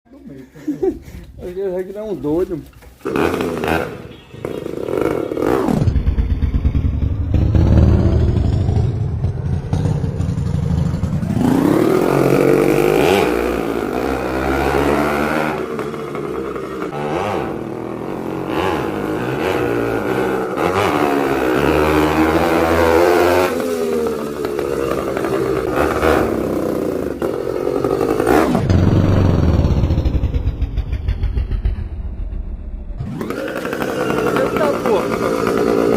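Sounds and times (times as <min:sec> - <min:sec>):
two-stroke motorcycle engine revving: 0:03.0 - 0:35.9.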